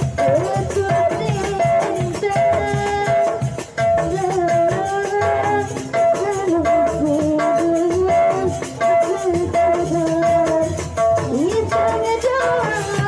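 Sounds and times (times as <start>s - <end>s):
band drums: 0.0s - 13.0s
steady percussion beat: 0.0s - 13.0s
woman singing into a microphone: 0.0s - 13.0s.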